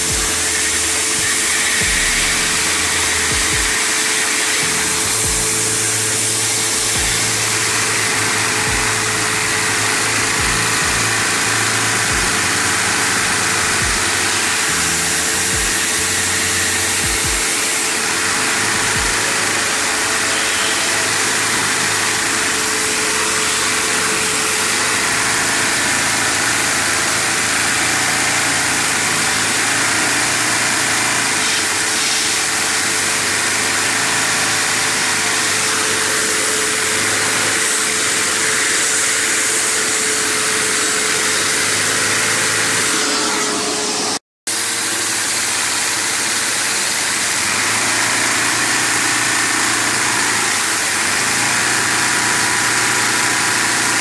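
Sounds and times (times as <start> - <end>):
plastic pistons and valves running: 0.0 - 54.0
vacuum whine: 0.0 - 54.0.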